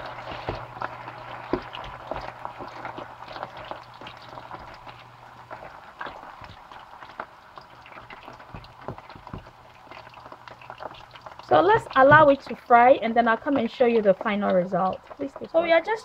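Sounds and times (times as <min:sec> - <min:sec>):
low steady hum: 0:00.0 - 0:16.0
plantain deep frying in oil: 0:00.0 - 0:16.0.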